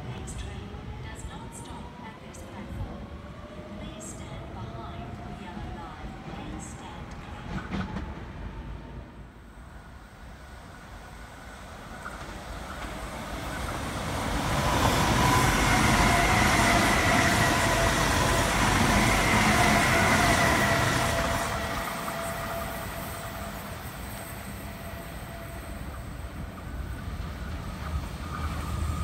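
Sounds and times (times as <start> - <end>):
train passing rumble: 0.0 - 29.0.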